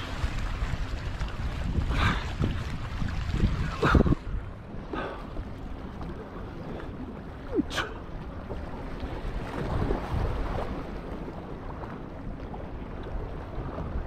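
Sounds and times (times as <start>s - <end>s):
water sloshing against rocks: 0.0s - 11.9s
wind buffeting microphone: 0.0s - 14.0s.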